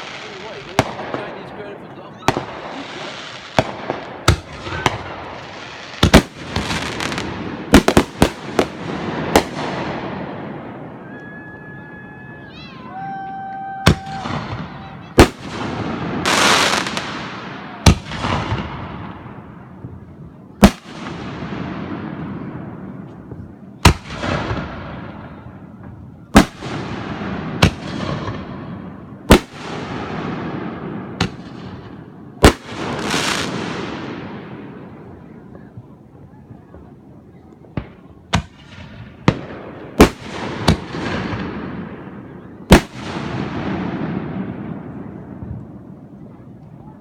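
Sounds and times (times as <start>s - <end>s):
fireworks crackle: 0.0s - 12.7s, 13.3s - 22.4s, 26.3s - 47.0s
fireworks exploding: 0.0s - 47.0s.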